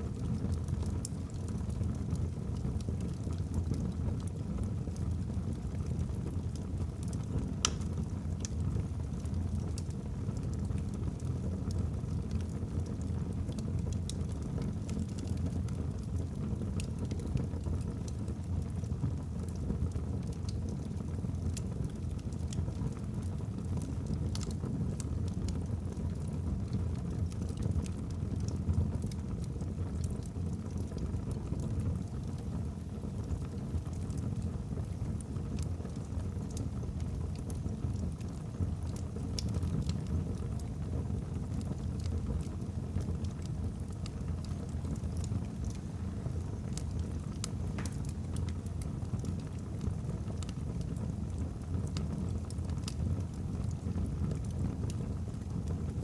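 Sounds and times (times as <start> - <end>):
fire flames rumbling: 0.0 - 56.0
logs crackling and popping: 0.1 - 56.0.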